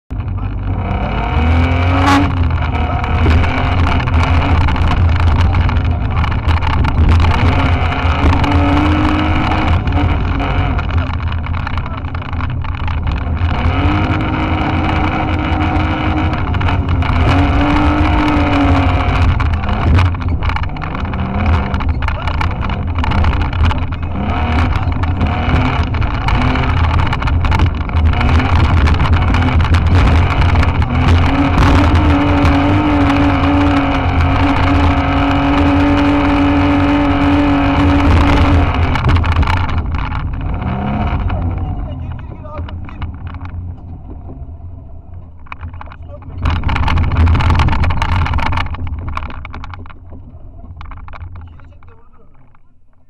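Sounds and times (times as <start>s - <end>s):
car engine revving: 0.1s - 53.0s
knocks and rattles: 0.1s - 53.0s.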